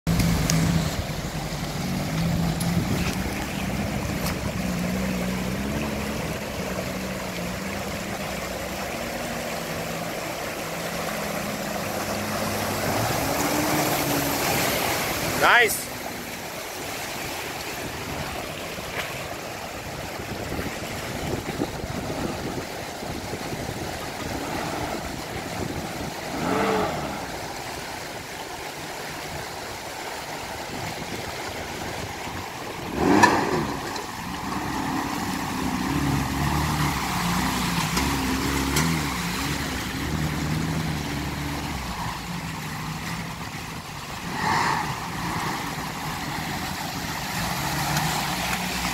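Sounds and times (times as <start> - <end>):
car engine revving and labouring: 0.0 - 28.3, 32.0 - 48.9
river rushing over rocks: 0.1 - 48.9.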